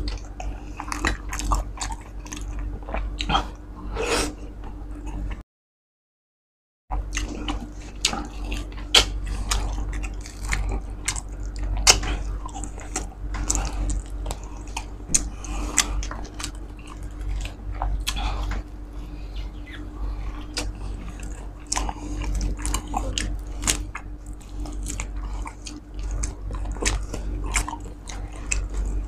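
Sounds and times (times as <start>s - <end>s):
crunchy biting and chewing: 0.0s - 3.5s, 7.1s - 29.0s
steady low hum: 0.0s - 5.4s, 6.9s - 29.0s.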